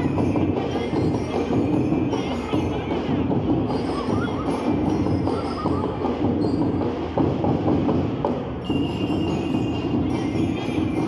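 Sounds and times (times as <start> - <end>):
marching band drums: 0.0 - 11.0.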